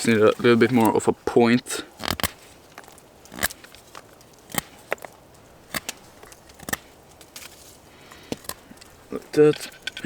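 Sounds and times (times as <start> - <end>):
knife carving wooden stick: 1.9 - 10.0.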